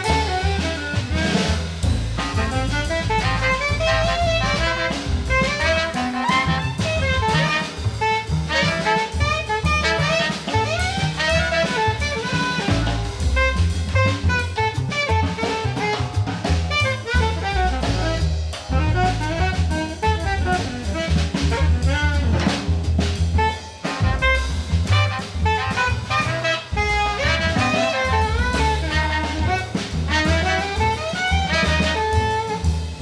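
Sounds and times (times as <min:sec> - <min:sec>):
double bass: 0:00.0 - 0:33.0
drum kit: 0:00.0 - 0:33.0
saxophone solo: 0:00.0 - 0:33.0.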